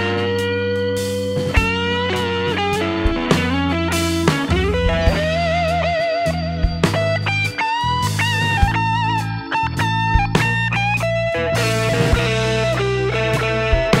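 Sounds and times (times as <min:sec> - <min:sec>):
bass and drums: 0:00.0 - 0:14.0
electric guitar lead: 0:00.0 - 0:14.0.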